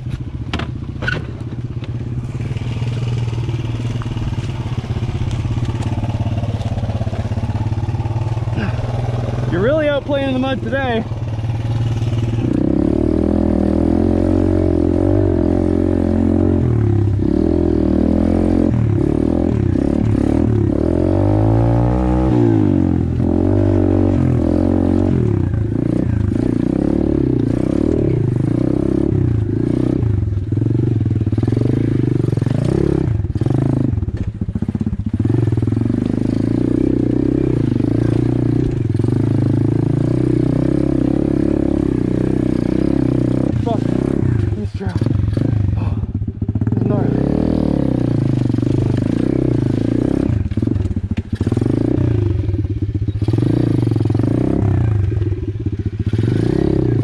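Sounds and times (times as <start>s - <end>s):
bike rattling over bumps: 0.0s - 13.4s, 22.0s - 57.0s.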